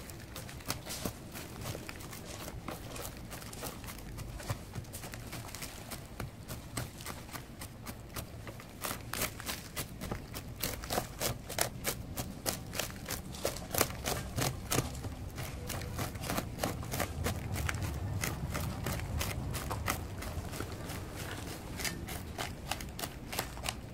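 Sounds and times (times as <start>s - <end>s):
root hook scratching through soil: 0.0s - 23.9s.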